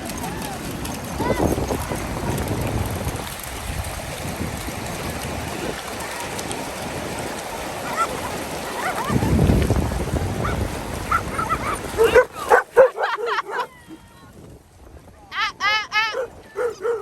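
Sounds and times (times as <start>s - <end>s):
sea surf: 0.0s - 17.0s
wind: 0.0s - 17.0s.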